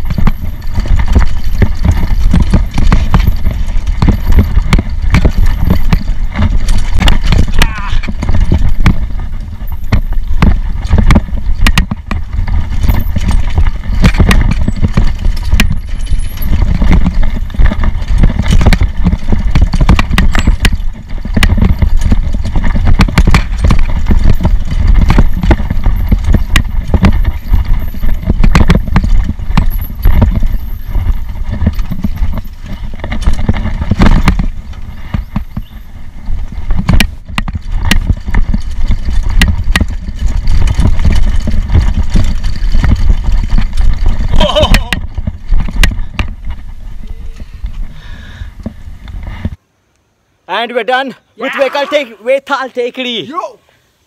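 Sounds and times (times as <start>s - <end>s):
bike rattling over rocks: 0.0s - 49.6s.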